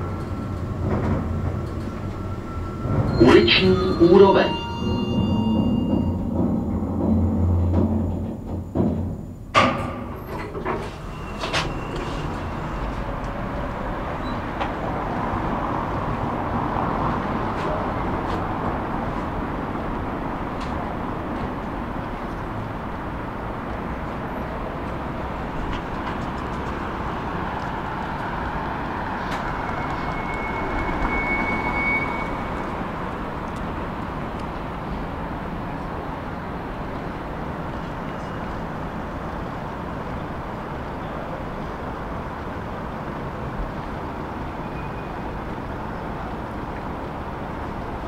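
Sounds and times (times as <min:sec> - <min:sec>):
city street traffic: 0:00.0 - 0:48.0.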